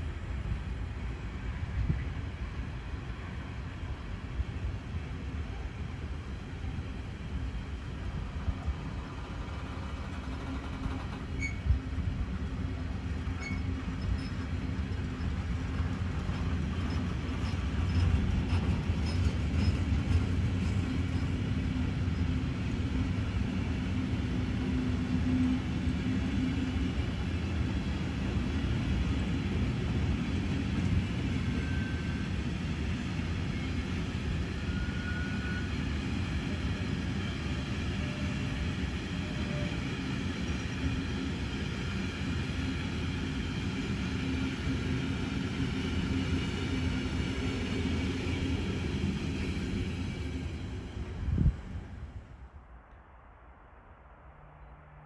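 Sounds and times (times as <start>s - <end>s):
train wheels rumbling on rail: 0.0s - 52.5s.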